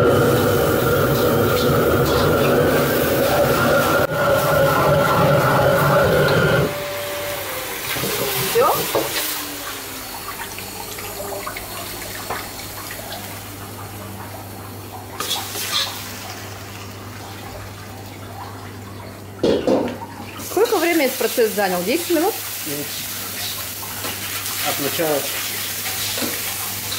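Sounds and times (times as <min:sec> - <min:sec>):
wok burner roaring: 0:00.0 - 0:13.6, 0:15.2 - 0:17.2, 0:20.4 - 0:26.9
low kitchen hum: 0:00.0 - 0:26.9.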